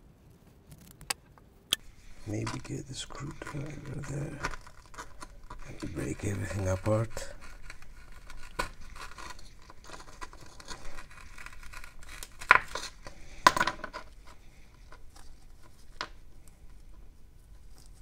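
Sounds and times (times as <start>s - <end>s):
screwdriver scraping ceramic: 1.8s - 17.0s.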